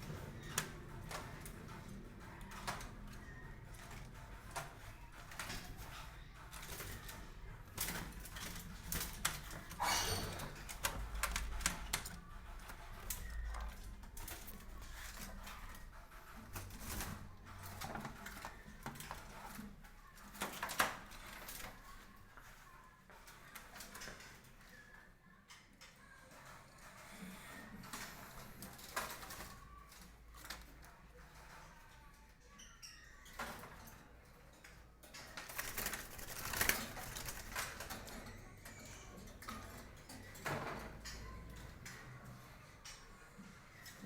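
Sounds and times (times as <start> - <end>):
birds clicking and scratching: 0.0 - 44.0.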